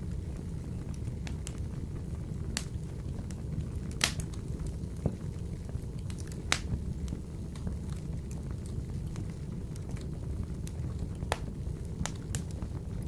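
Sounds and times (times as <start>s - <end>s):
fire crackling and popping: 0.0s - 13.0s
fire rumbling in stove: 0.0s - 13.0s.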